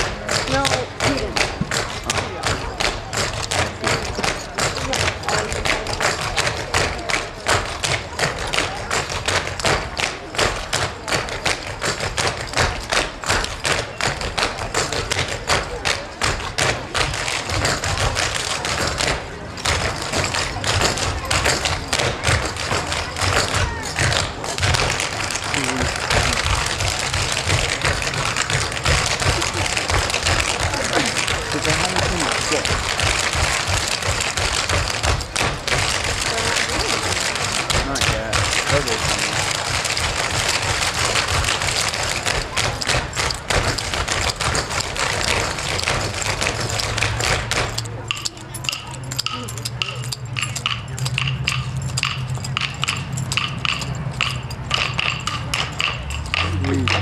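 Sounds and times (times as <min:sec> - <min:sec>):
tap shoes striking stage: 0:00.0 - 0:57.0.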